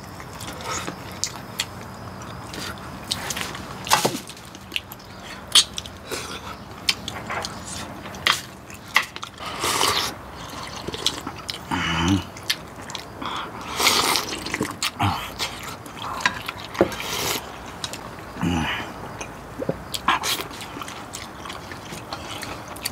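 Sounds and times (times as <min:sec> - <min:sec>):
chewing and sucking on bones: 0:00.0 - 0:22.9.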